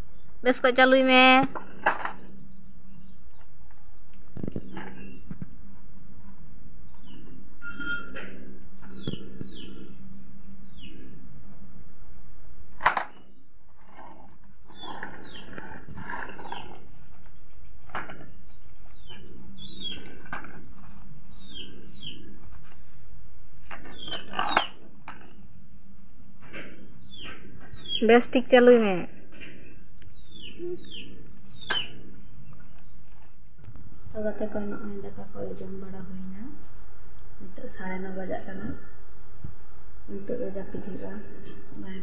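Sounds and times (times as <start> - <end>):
birds chirping: 0.0 - 36.5
steady low hum: 0.0 - 42.0.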